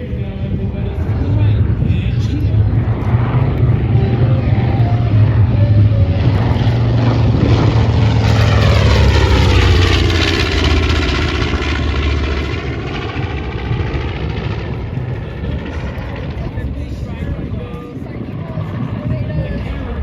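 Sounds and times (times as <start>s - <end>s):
propeller plane flying past: 0.0s - 20.0s.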